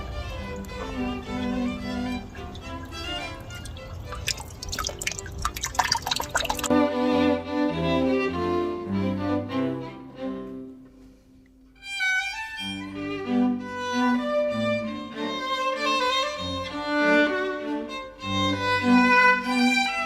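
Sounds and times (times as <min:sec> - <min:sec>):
violin: 0:00.0 - 0:04.4, 0:06.7 - 0:20.0
low cello-like strings: 0:00.0 - 0:11.1, 0:11.7 - 0:20.0.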